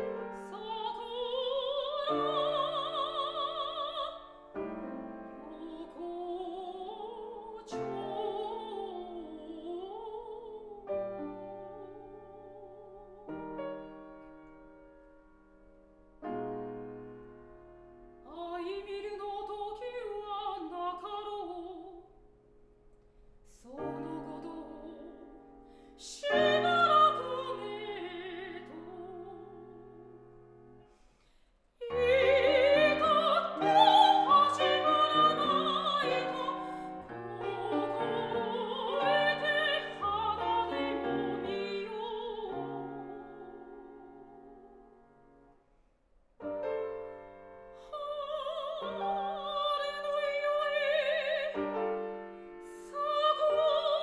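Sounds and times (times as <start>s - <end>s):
soprano singing: 0.0s - 22.4s, 23.4s - 30.8s, 31.8s - 45.5s, 46.4s - 54.0s
piano accompaniment: 0.0s - 23.0s, 31.8s - 45.6s, 46.4s - 54.0s.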